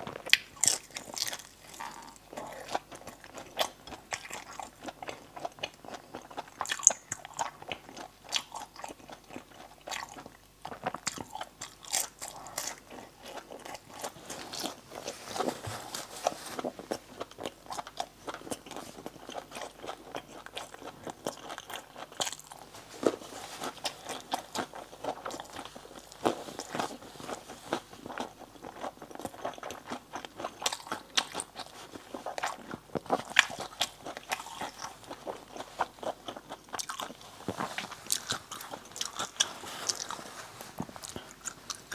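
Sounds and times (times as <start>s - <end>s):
crunching fried food: 0.0s - 41.9s
person chewing: 0.0s - 41.9s.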